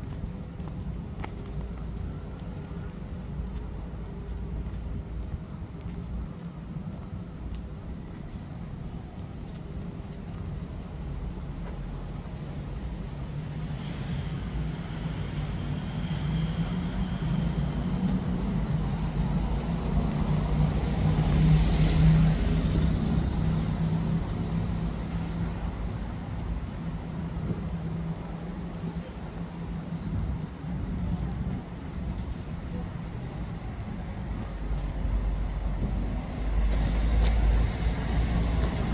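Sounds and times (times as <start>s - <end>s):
car driving on cobblestones: 0.0s - 38.9s.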